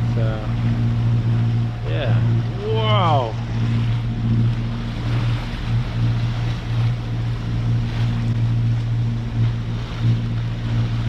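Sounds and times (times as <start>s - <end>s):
boat engine droning: 0.0s - 11.0s
water rushing along hull: 0.0s - 11.0s
wind on microphone: 0.0s - 11.0s.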